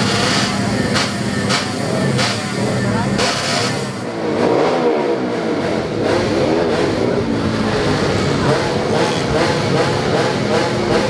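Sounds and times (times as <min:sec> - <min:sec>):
motorcycle engines revving high: 0:00.0 - 0:11.0.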